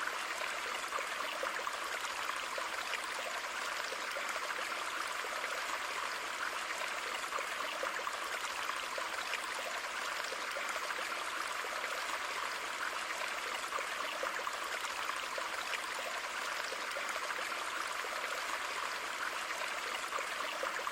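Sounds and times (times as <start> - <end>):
water flowing and trickling: 0.0 - 20.9.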